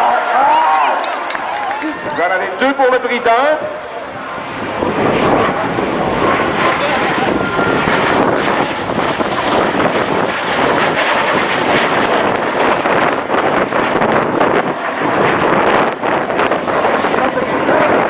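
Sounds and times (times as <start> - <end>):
aircraft engines rushing: 0.0 - 18.0
wind buffeting microphone: 1.2 - 18.0.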